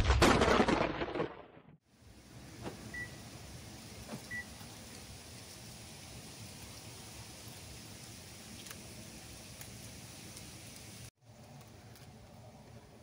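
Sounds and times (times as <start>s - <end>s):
faint outdoor background: 1.6s - 13.0s.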